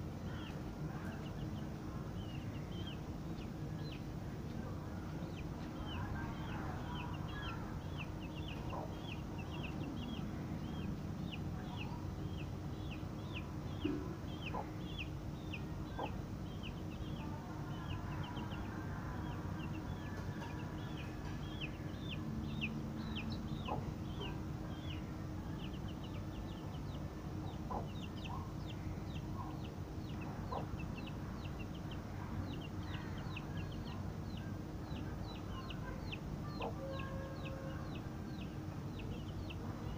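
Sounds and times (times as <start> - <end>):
chicks peeping: 0.2 - 39.9.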